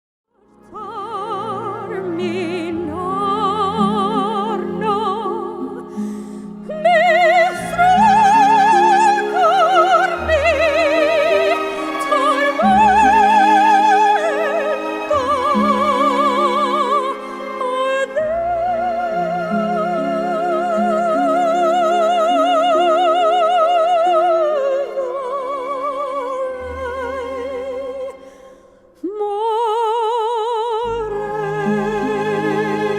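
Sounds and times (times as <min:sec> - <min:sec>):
operatic singing: 0:00.4 - 0:32.9.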